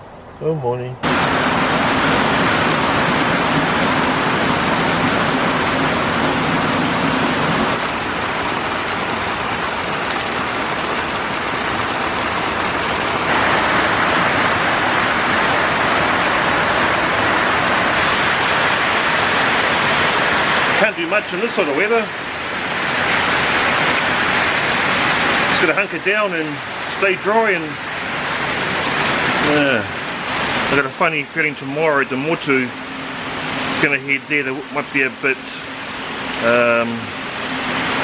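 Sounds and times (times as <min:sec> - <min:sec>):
heavy rain pouring: 0:01.0 - 0:38.0.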